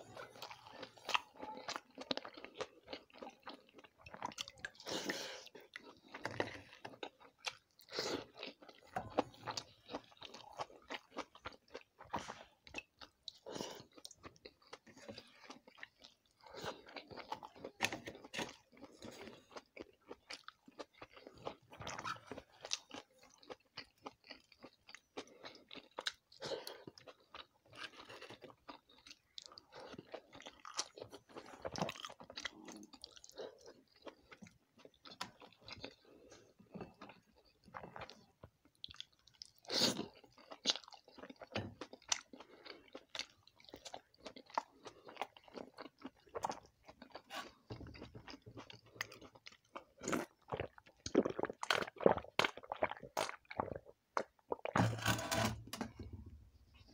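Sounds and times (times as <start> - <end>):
person chewing and smacking: 0.0 - 54.8.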